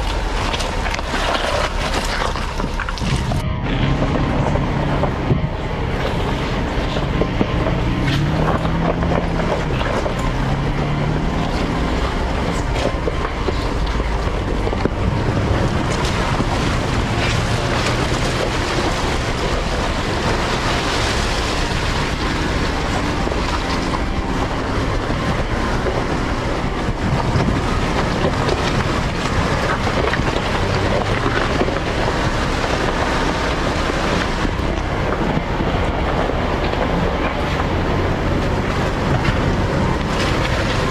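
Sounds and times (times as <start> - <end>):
car engine running: 0.0 - 40.9
wind on microphone: 0.0 - 40.9.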